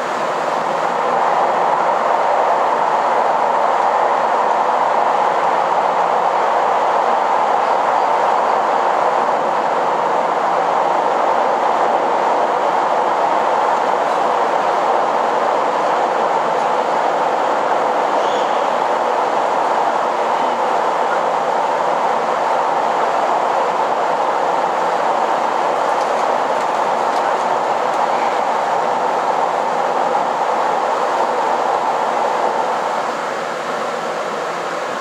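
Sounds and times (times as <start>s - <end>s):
diesel train running noise: 0.0s - 35.0s.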